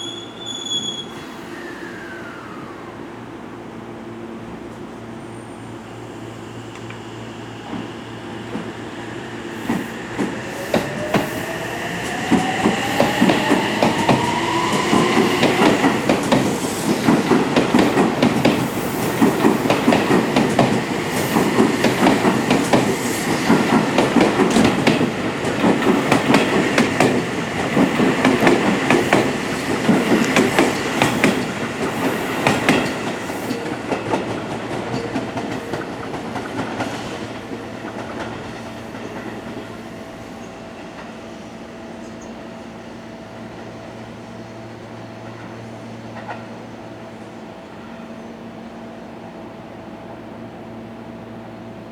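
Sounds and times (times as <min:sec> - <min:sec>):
train rumble: 0:03.3 - 0:48.0.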